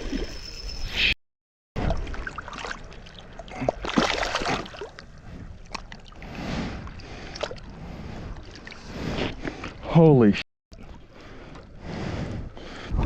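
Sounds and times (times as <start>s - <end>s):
water splashing and sloshing: 1.8s - 10.0s, 10.7s - 13.0s.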